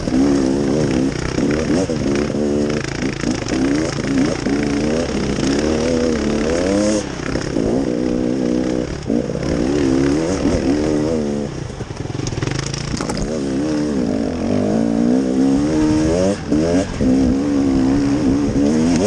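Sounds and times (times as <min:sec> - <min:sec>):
off-road vehicle engine: 0:00.0 - 0:19.0.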